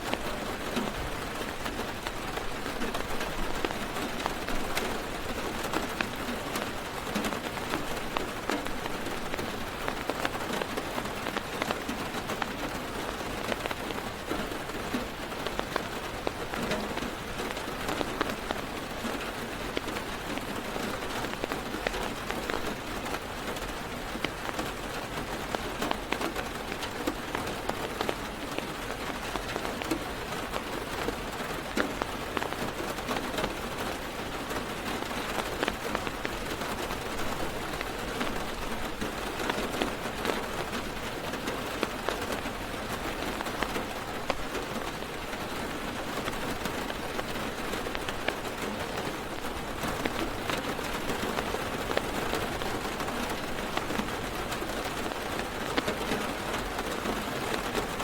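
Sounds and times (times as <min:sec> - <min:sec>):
heavy rain drumming on car roof: 0:00.0 - 0:58.0.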